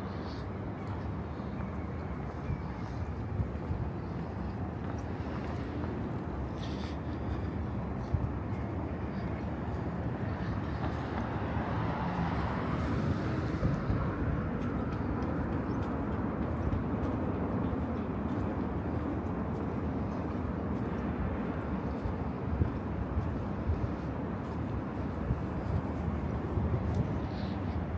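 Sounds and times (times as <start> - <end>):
distant traffic rumble: 0.0 - 27.9.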